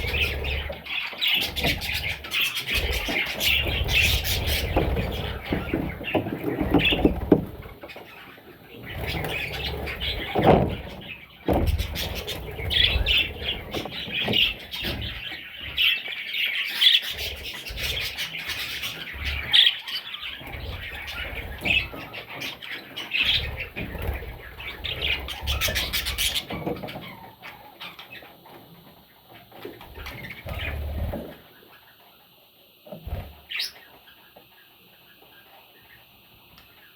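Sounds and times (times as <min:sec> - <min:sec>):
bird chicks chirping and squawking: 0:00.0 - 0:36.9.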